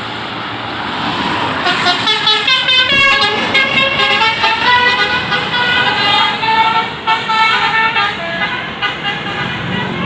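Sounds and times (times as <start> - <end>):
bus multi-tone horn playing tune: 1.6 - 10.0.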